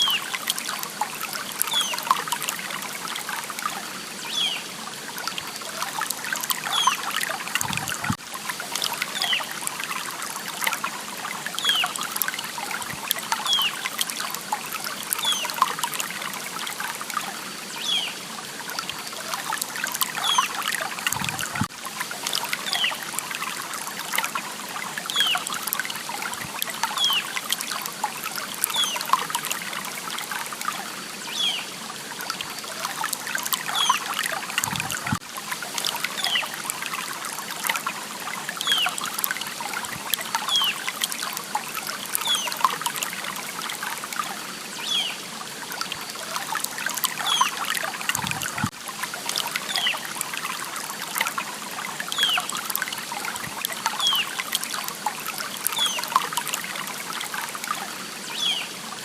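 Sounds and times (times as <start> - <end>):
water trickling over stones: 0.0 - 59.0.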